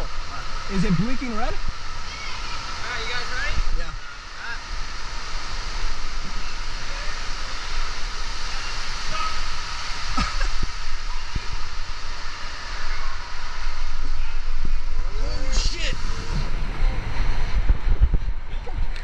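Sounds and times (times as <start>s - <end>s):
water rushing down slide: 0.0s - 19.0s.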